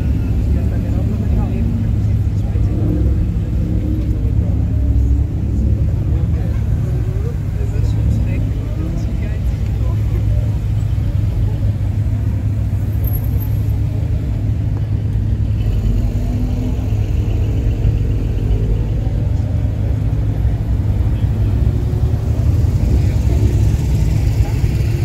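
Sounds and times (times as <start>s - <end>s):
cars idling past slowly: 0.0s - 25.0s.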